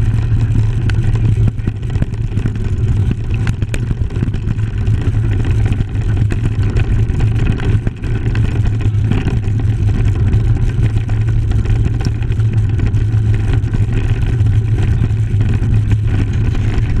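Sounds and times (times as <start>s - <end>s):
bike clicks and rattles: 0.0s - 17.0s
wind and tyre rumble: 0.0s - 17.0s.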